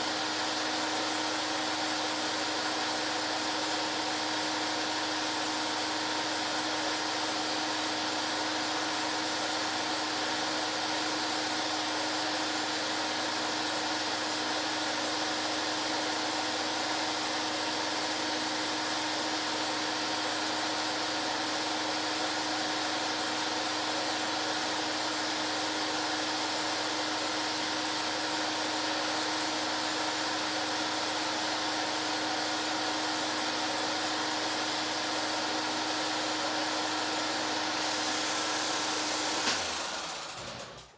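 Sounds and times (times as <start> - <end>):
film projector motor whirring: 0.1 - 40.9.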